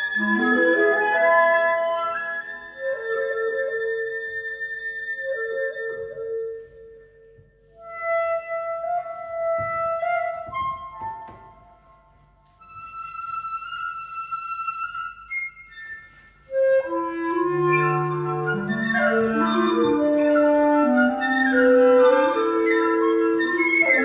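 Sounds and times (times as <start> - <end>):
flute and clarinets playing: 0.0 - 24.0.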